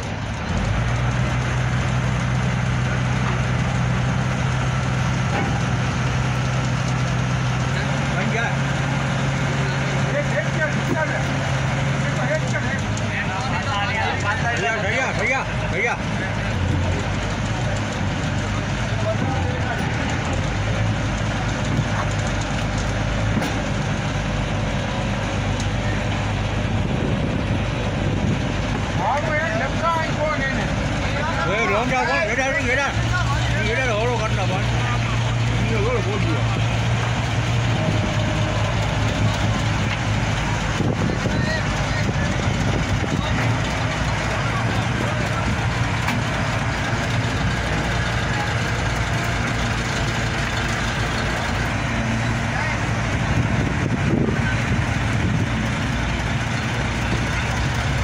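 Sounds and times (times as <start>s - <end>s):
crane engine droning: 0.0s - 58.0s.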